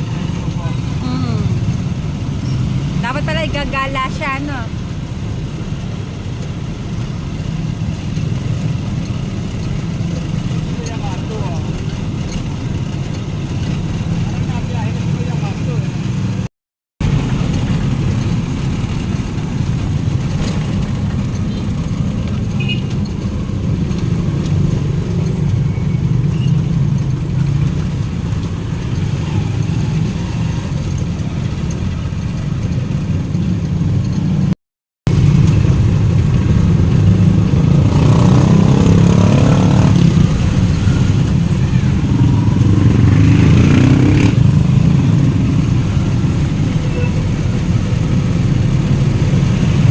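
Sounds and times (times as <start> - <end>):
vehicle engine and road noise: 0.0 - 49.9.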